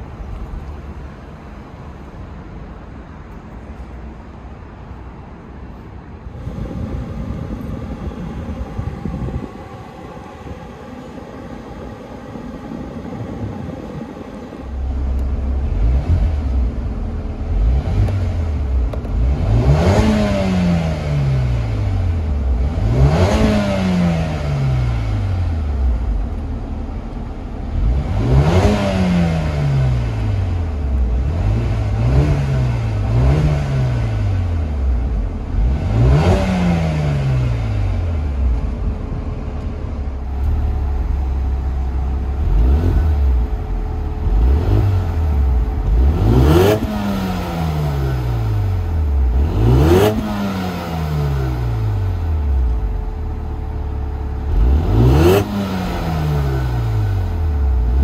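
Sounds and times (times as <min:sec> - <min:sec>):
car engine idling: 0:00.0 - 0:58.0
car engine revving: 0:06.2 - 0:58.0.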